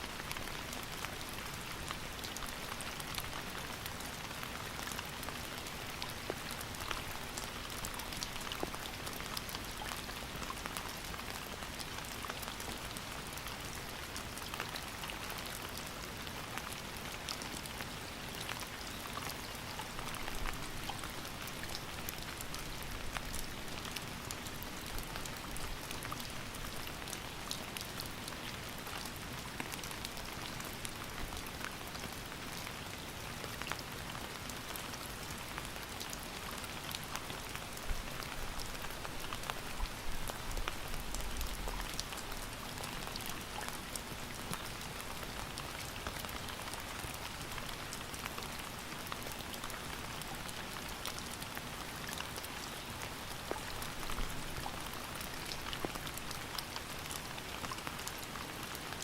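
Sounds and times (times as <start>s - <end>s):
steady rain with dripping patter: 0.0s - 59.0s.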